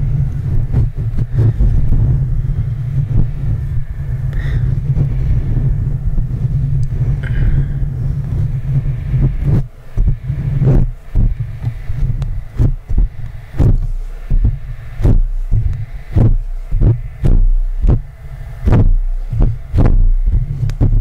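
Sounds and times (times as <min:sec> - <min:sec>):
fingers rubbing microphone grille: 0:00.0 - 0:21.0.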